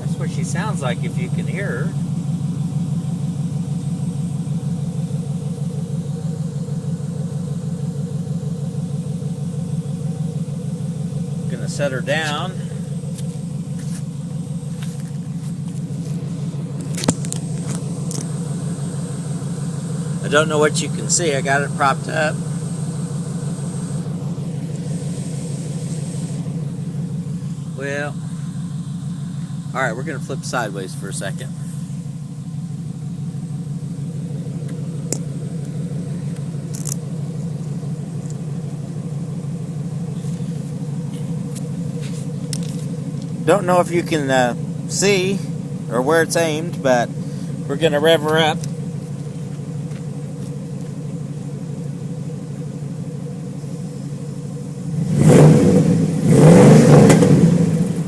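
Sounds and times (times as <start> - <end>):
pickup truck engine idling: 0.0 - 58.0.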